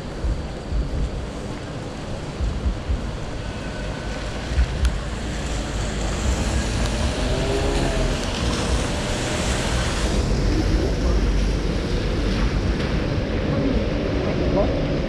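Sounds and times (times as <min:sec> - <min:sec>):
rain hissing: 0:00.0 - 0:15.0
traffic on wet road: 0:00.0 - 0:15.0
wind buffeting microphone: 0:00.0 - 0:15.0.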